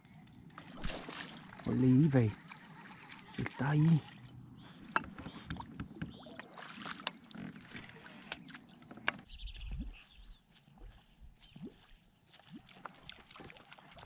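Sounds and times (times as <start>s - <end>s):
water lapping at hull: 0.0s - 14.0s.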